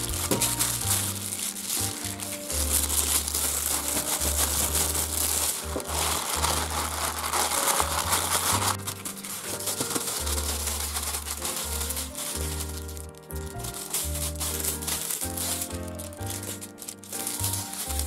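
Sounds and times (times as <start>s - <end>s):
background music: 0.0s - 18.0s
plastic bag crinkling: 0.0s - 18.0s.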